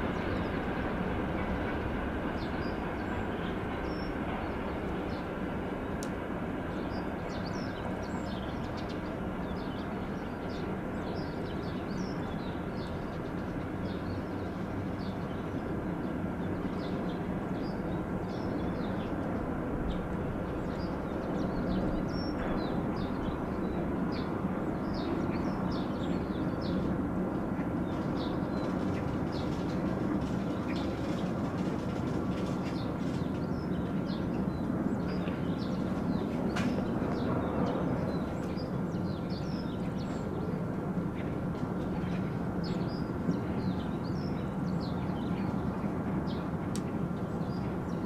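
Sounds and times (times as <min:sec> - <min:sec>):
freight train rolling on rails: 0:00.0 - 0:48.0
birds chirping: 0:06.7 - 0:48.0.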